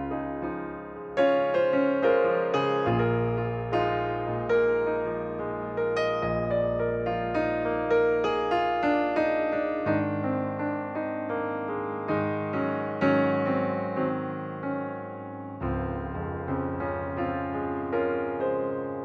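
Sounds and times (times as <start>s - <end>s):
gentle piano tune: 0.0s - 19.0s.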